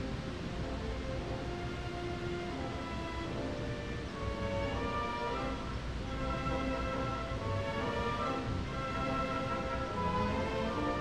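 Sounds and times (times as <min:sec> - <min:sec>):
music of slow held notes: 0:00.0 - 0:11.0.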